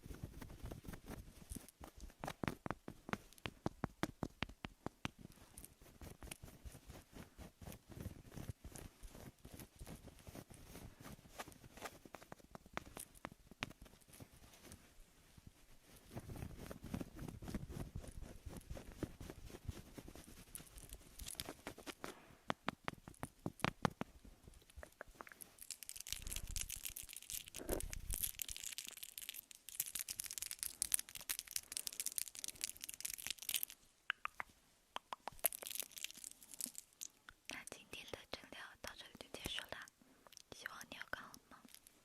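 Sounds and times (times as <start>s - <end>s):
scratchy crinkly noises: 0.0s - 33.9s, 35.2s - 42.0s.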